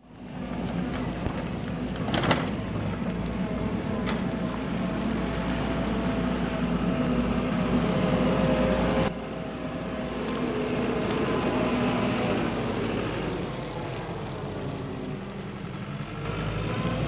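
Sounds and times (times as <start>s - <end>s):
engine humming drone: 0.0s - 17.0s.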